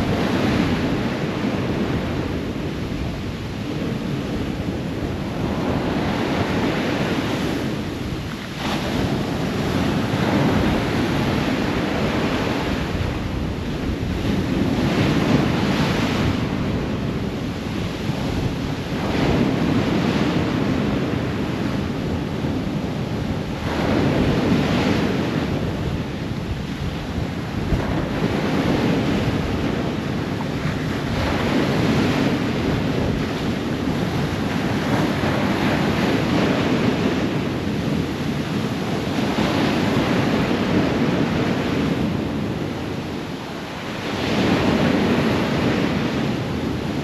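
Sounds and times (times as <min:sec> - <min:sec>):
ocean waves breaking: 0:00.0 - 0:47.0.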